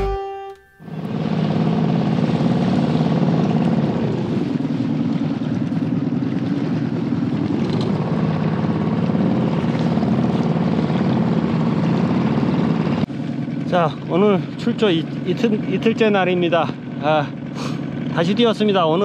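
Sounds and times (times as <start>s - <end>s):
small boat motor droning: 0.0s - 19.0s.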